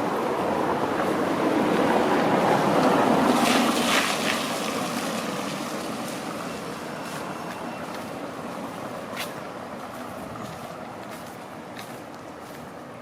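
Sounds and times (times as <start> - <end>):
vehicle passing by: 0.0 - 12.8
street noise: 0.0 - 13.0.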